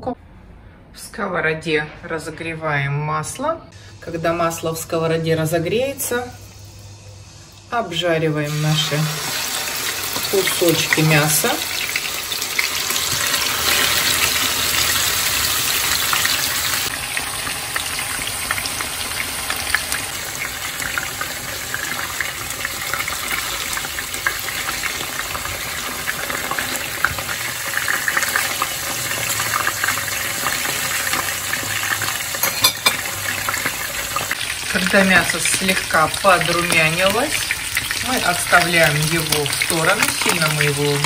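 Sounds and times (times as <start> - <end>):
meat sizzling in hot oil: 4.4 - 41.0.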